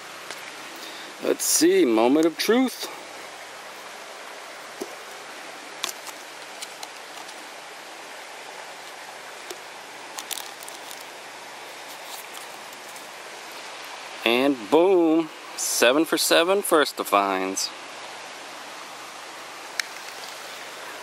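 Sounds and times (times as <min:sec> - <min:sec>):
outdoor hiss: 0:00.0 - 0:21.0.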